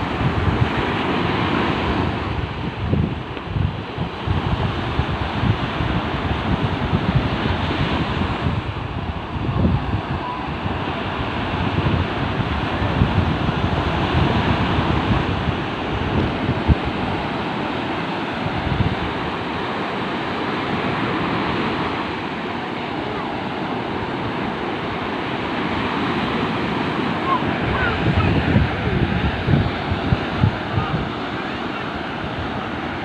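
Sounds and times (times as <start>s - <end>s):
sea waves washing onto beach: 0.0s - 33.0s
wind gusting against microphone: 0.0s - 33.0s.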